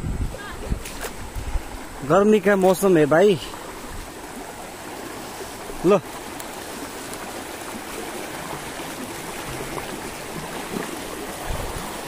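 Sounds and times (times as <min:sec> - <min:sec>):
river rushing over stones: 0:00.5 - 0:12.0.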